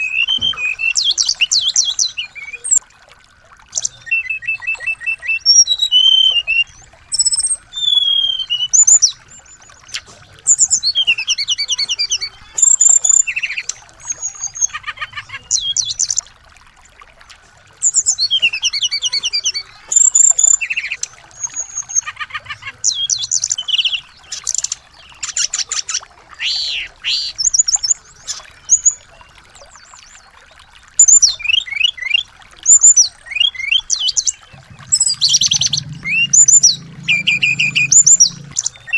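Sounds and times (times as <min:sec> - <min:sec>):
songbirds singing trills and whistles: 0:00.0 - 0:02.8, 0:03.7 - 0:38.9.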